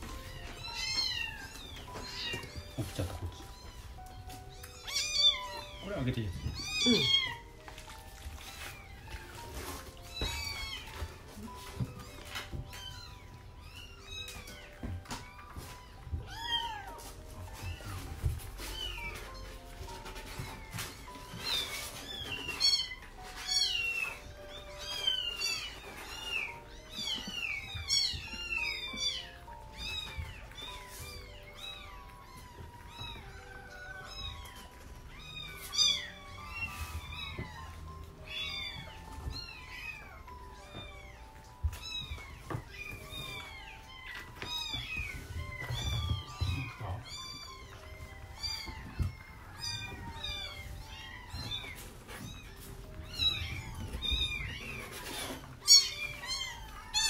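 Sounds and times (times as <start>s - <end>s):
kittens meowing: 0.0s - 57.0s.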